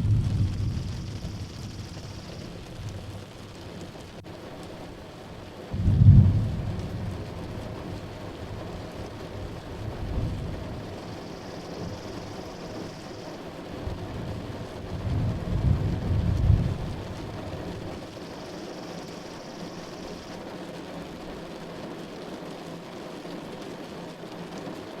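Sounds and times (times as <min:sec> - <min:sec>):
thunder rumbling: 0:00.0 - 0:20.3
steady rain: 0:00.0 - 0:25.0.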